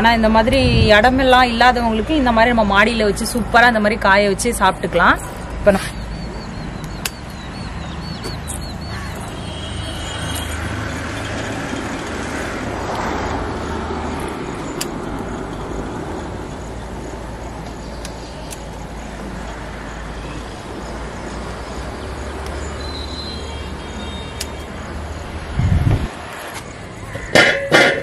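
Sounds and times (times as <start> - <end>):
outdoor rumble and hiss: 0.0 - 28.0.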